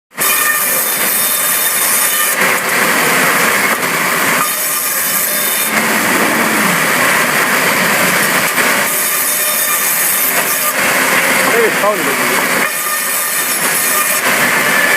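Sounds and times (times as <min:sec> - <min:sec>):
saw cutting through timber: 0:00.1 - 0:14.9.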